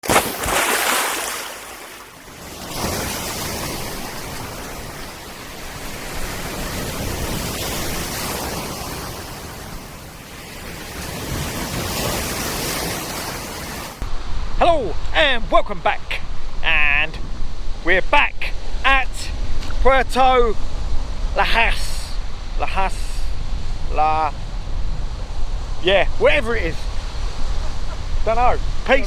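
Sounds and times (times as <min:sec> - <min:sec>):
sea surf breaking on shore: 0:00.0 - 0:29.0.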